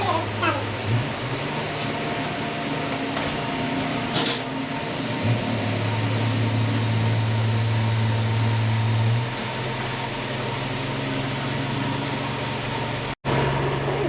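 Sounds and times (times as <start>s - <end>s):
machine humming: 2.0s - 14.0s.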